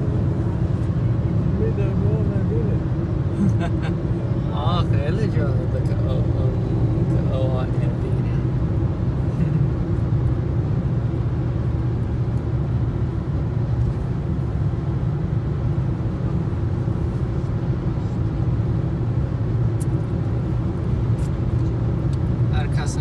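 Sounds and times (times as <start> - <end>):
car interior rumble: 0.0 - 23.0.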